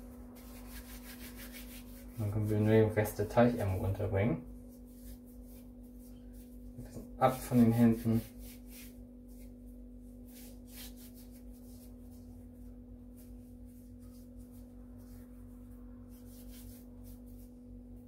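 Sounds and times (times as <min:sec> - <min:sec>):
hands rubbing dough: 0:00.0 - 0:18.0
steady electrical hum: 0:00.0 - 0:18.0.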